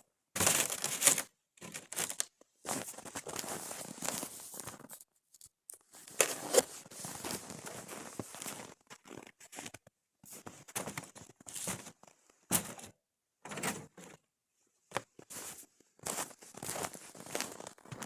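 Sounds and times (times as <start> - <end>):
rustling and crinkling handling: 0.4 - 18.0.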